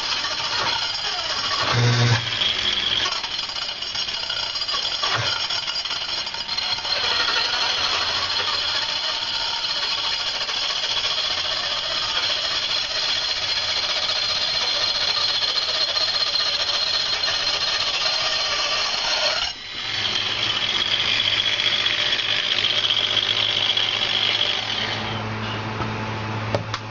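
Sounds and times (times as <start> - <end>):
angle grinder whining: 0.0 - 25.9.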